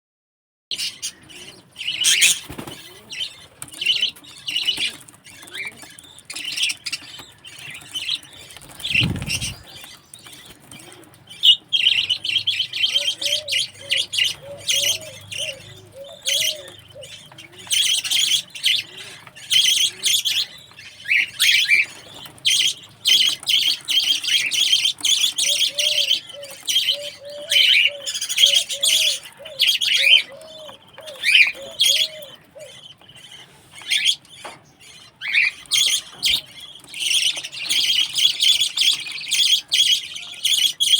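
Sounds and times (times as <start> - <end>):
budgerigars chirping: 0.7 - 40.9.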